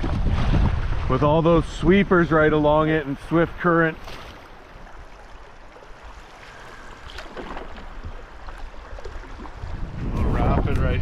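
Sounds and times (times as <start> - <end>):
light water splashes: 0.0 - 11.0.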